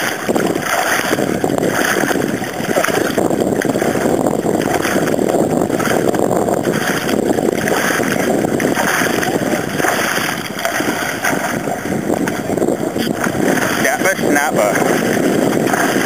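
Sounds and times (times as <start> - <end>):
water sloshing around a kayak: 0.0 - 16.0.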